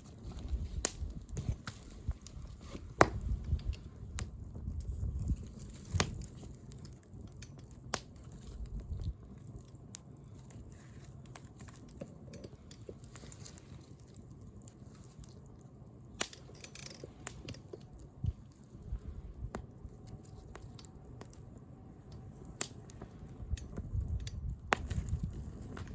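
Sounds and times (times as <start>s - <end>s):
burning wood popping: 0.0s - 25.9s
wood fire crackling: 0.0s - 25.9s.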